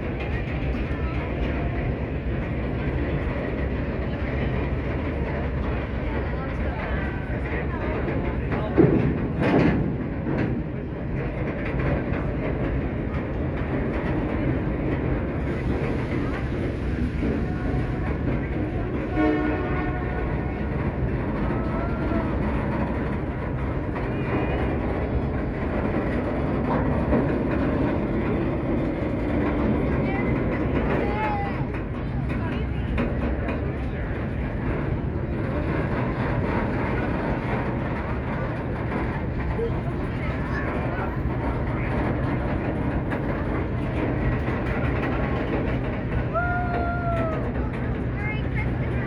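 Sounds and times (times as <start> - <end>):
train rumbling on track: 0.0 - 49.0.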